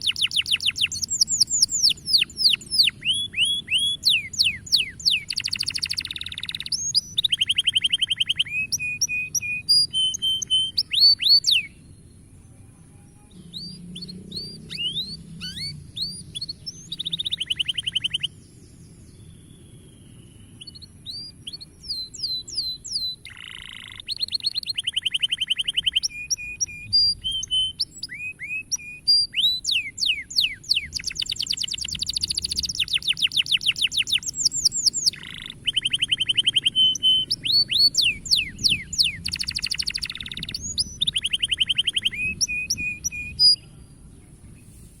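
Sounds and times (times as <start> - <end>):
canary singing: 0.0 - 12.1, 13.0 - 18.6, 19.2 - 43.8.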